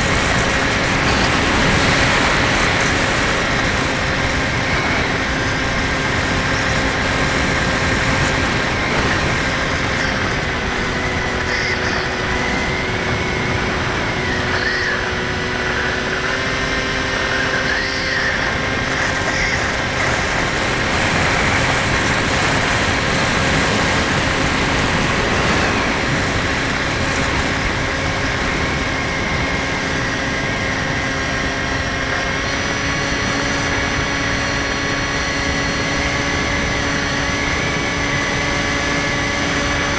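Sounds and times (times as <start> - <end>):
electric motor whine: 0.0 - 39.9
wind rush: 0.0 - 39.9.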